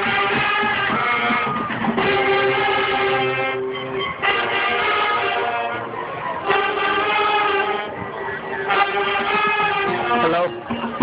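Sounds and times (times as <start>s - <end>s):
brass band playing chords: 0.0s - 11.0s.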